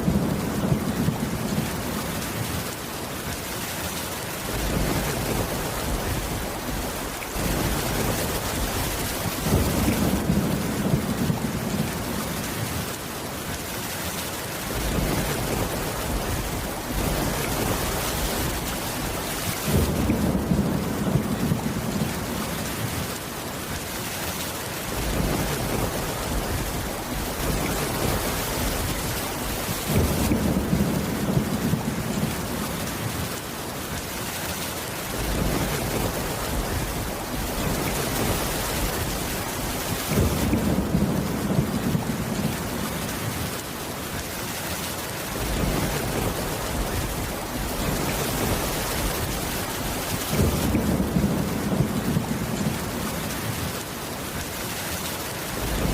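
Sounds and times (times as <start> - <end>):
low rolling thunder: 0.0 - 2.7, 4.4 - 13.0, 14.7 - 23.2, 24.9 - 33.4, 35.1 - 43.6, 45.3 - 53.8, 55.6 - 55.9
heavy rain: 0.0 - 55.9.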